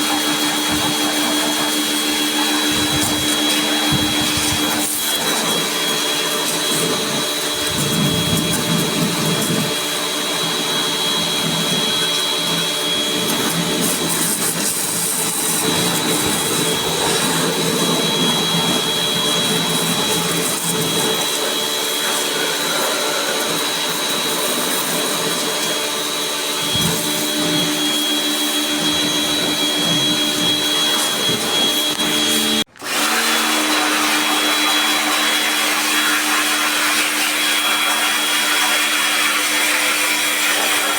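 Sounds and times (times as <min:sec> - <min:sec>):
small electric motor whining: 0:00.0 - 0:38.5.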